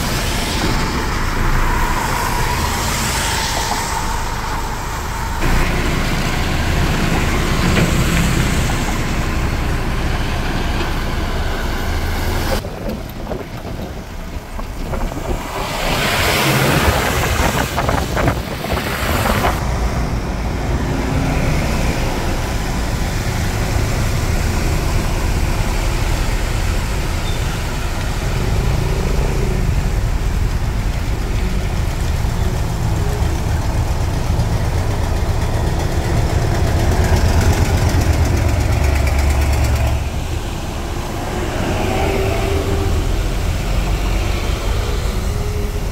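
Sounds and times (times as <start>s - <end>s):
truck engine rumble: 0.0s - 45.9s
tyre noise on wet road: 0.0s - 45.9s.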